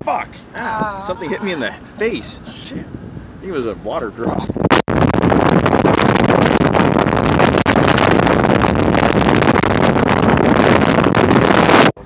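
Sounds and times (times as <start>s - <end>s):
wind rushing on microphone: 0.1s - 12.0s.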